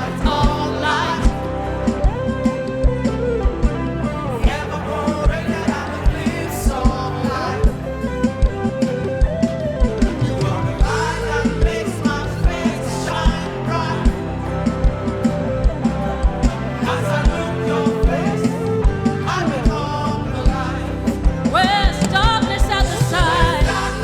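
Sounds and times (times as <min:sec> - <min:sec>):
bass: 0:00.0 - 0:24.0
keyboard chords: 0:00.0 - 0:24.0.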